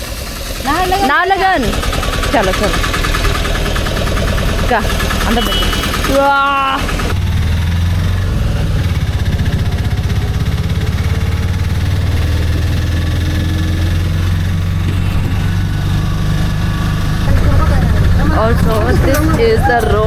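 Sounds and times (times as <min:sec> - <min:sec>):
auto rickshaw engine running: 0:00.0 - 0:20.0.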